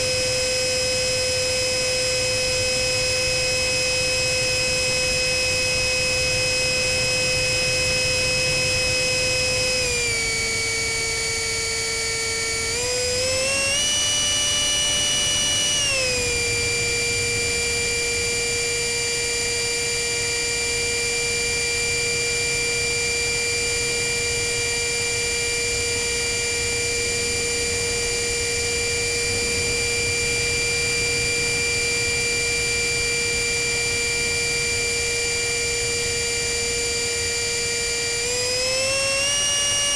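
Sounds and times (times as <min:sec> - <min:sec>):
electric ducted fan whine: 0:00.0 - 0:39.9.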